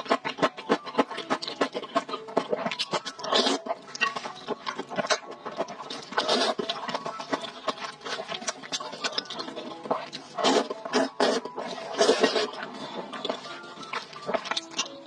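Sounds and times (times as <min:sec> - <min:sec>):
wet chewing and smacking: 0:00.0 - 0:15.0
noodle slurps: 0:01.5 - 0:14.6.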